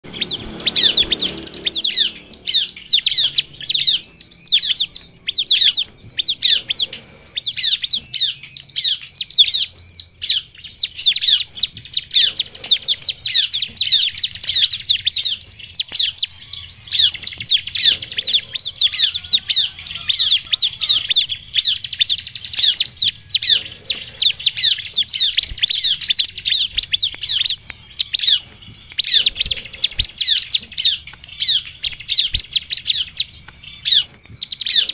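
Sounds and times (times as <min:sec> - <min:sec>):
bird singing high chirps: 0:00.0 - 0:34.9.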